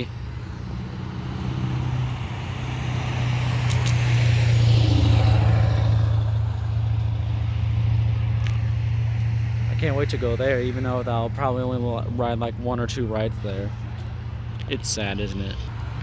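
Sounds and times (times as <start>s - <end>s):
steady low traffic hum: 0.0s - 16.0s
vehicle engine and tyre noise: 0.0s - 16.0s.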